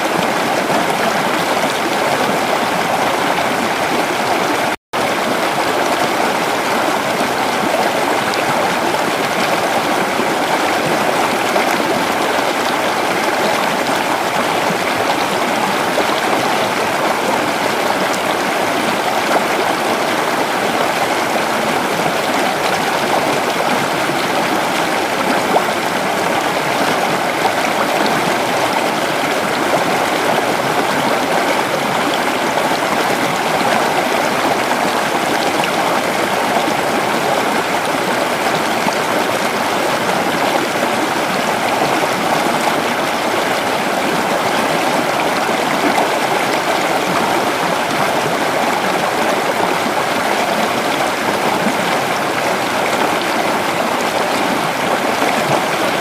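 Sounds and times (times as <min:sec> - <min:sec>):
creek water over rocks: 0:00.0 - 0:56.0.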